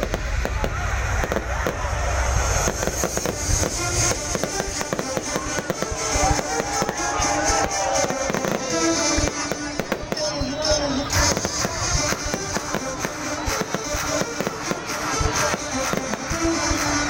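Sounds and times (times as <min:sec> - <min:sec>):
fireworks crackling and banging: 0:00.0 - 0:17.0
music playing: 0:00.0 - 0:17.0.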